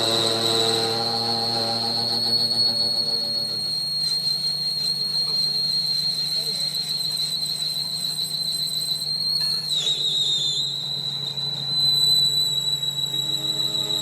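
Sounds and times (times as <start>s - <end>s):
power tool whine: 0.0s - 14.0s.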